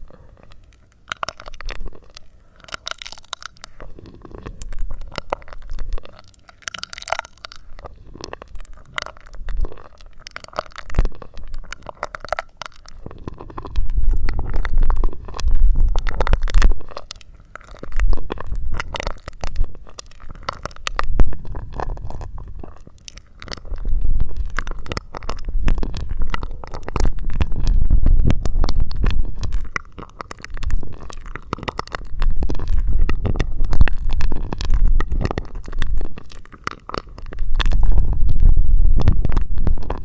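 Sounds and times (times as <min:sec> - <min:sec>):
wet mouth clicks and sucking: 0:00.0 - 0:40.0.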